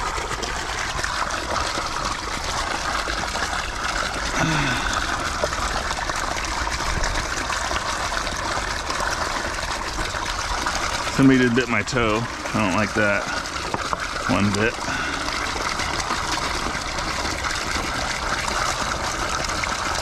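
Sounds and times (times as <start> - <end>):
water splashing over rocks: 0.0 - 20.0.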